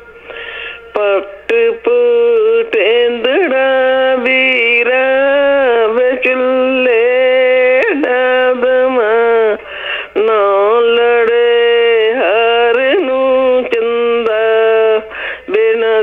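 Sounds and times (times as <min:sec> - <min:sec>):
person singing unaccompanied: 0:00.0 - 0:16.0.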